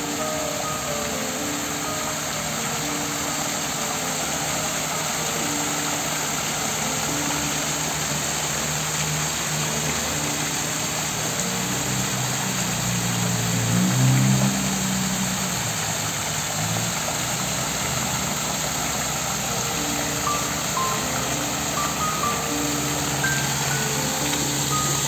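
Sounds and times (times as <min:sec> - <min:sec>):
rain hissing on street: 0:00.0 - 0:25.0
low engine sound: 0:00.2 - 0:25.0
vehicle engines running: 0:01.0 - 0:25.0.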